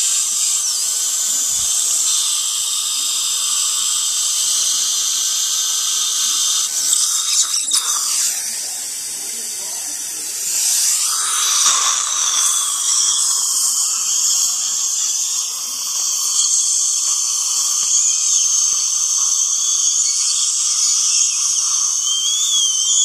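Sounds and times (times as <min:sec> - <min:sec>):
dental drill whining: 0:00.0 - 0:23.0
suction hissing: 0:00.0 - 0:23.0.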